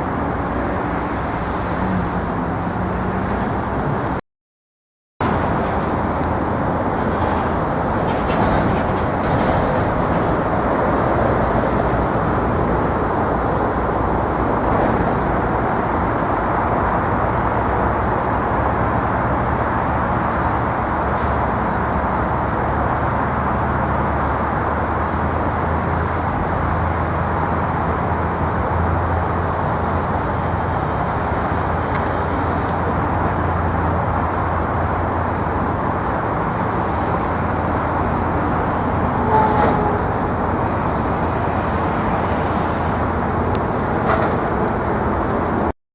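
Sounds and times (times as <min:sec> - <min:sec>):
city road traffic roar: 0:00.0 - 0:04.2, 0:05.2 - 0:45.8.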